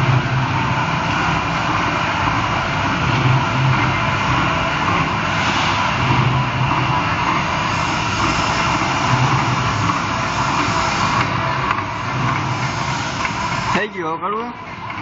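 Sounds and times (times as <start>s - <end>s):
lathe machine running: 0.0s - 15.0s.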